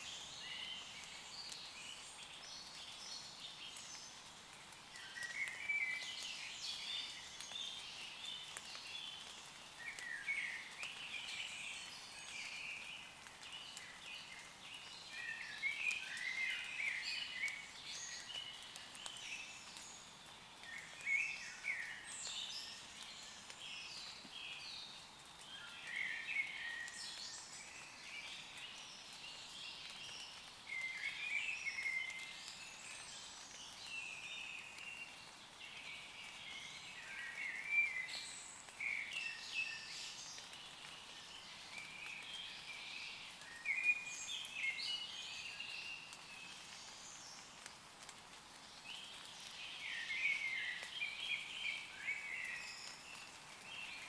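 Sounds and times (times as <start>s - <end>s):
light rain on leaves: 0.0s - 54.0s
birds singing: 4.9s - 47.7s, 48.6s - 54.0s.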